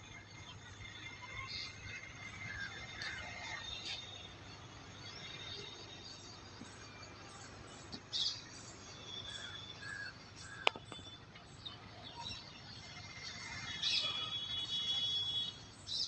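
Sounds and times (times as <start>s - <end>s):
birds chirping and calling: 0.2s - 16.0s.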